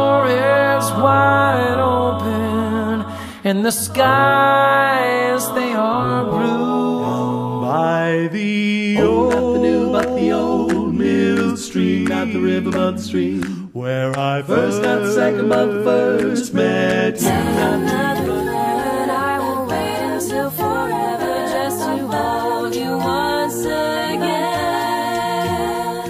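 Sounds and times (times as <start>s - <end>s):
a cappella group singing: 0.0s - 26.0s.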